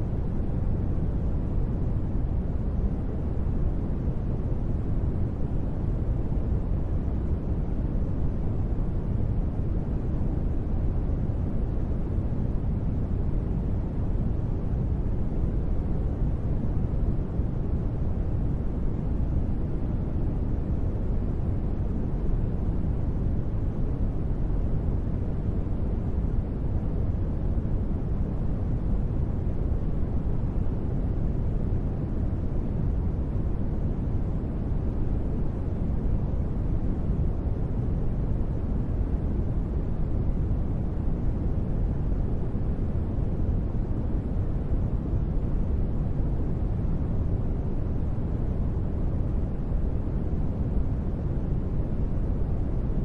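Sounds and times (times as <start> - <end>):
deep rumbling noise with hiss: 0.0 - 53.0.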